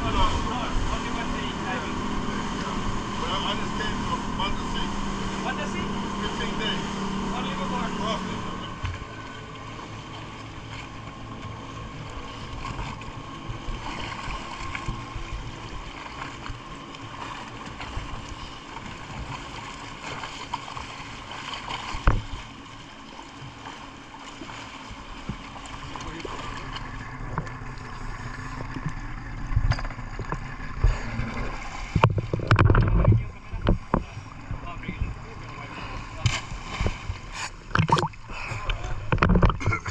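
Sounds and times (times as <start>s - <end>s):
motorboat engine running: 0.0s - 39.9s
water slapping against hull: 0.0s - 39.9s.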